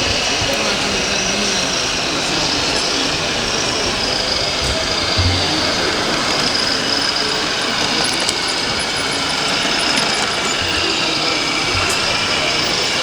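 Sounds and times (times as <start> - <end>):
hall noise: 0.0 - 13.0
model truck engines idling: 0.0 - 13.0.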